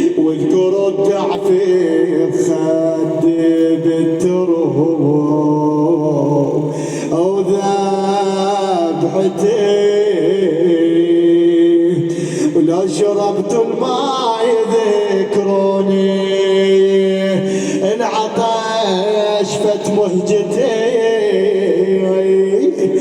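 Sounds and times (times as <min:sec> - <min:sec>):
man chanting a lament: 0:00.0 - 0:23.0.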